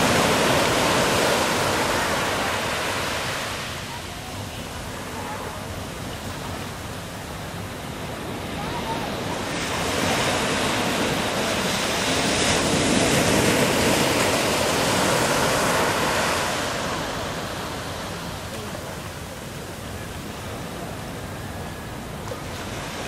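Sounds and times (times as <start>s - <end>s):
sea waves: 0.0s - 23.0s.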